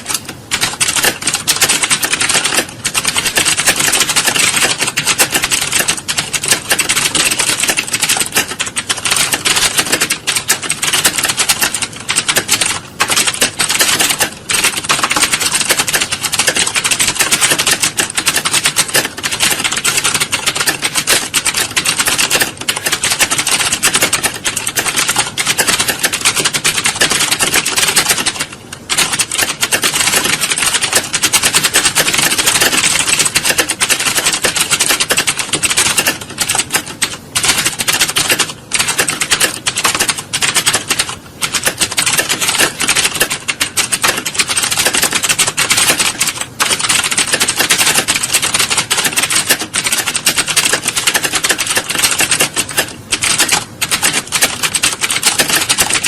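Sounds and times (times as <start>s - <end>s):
keyboards typing clatter: 0.0s - 56.0s.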